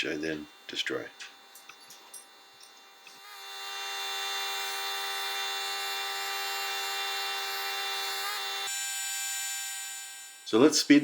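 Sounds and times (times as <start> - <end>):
pneumatic air scribe buzzing: 0.0 - 10.8.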